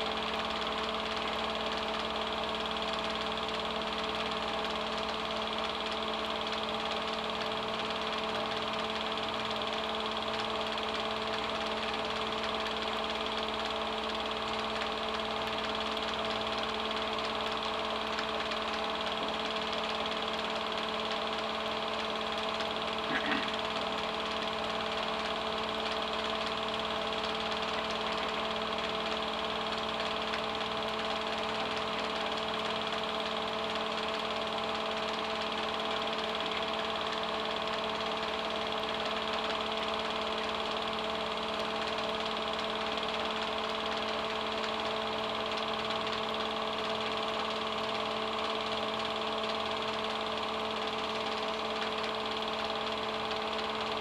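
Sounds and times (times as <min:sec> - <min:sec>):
film projector running: 0:00.0 - 0:54.0.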